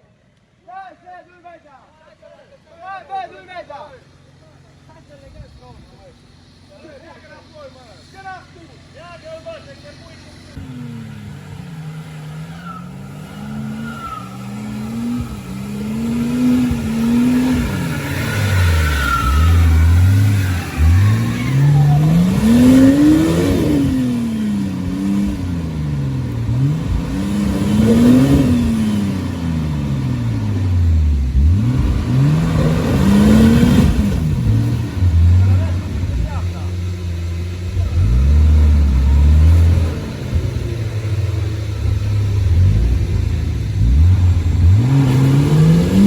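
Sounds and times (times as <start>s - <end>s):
off-road vehicle engine revving: 3.5s - 46.0s.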